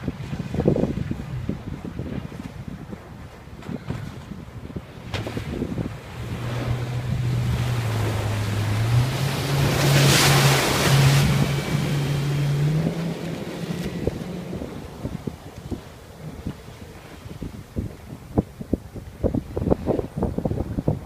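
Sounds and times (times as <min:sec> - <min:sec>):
hull spray and wake rushing: 0:00.0 - 0:21.0
outboard engine drone: 0:00.0 - 0:21.0.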